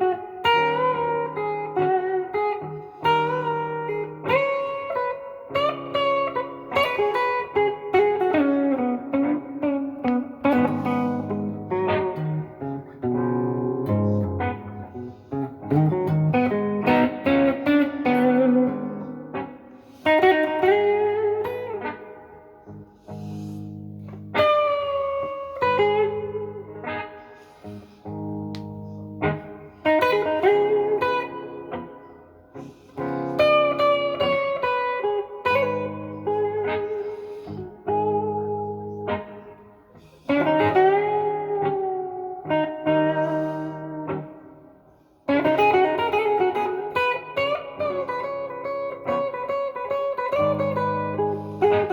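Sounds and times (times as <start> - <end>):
overdriven electric guitar blues: 0.0 - 51.9.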